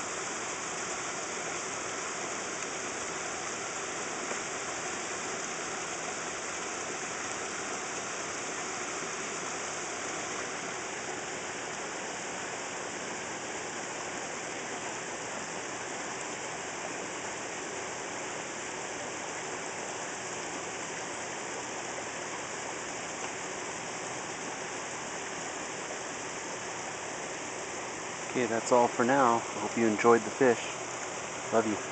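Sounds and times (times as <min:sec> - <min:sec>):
running splashing water in pond: 0:00.0 - 0:31.9.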